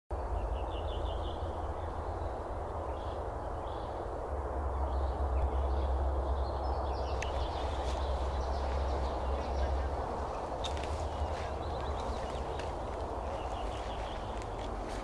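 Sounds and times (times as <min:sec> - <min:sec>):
small birds chirping: 0:00.1 - 0:15.0
steady rushing background noise: 0:00.1 - 0:15.0.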